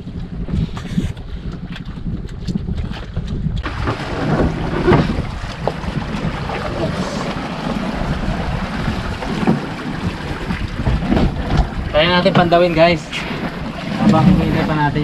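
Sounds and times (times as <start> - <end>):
wind buffeting microphone: 0.0 - 15.0
sea washing around boat: 2.7 - 15.0.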